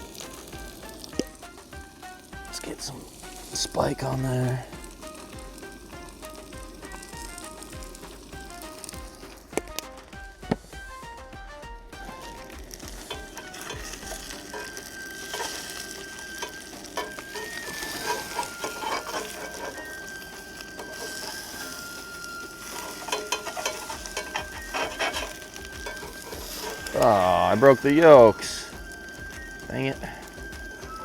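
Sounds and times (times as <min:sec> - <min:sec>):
spatula scraping a pan: 0:00.0 - 0:10.8, 0:12.0 - 0:31.0
eggs sizzling in a pan: 0:00.0 - 0:31.0.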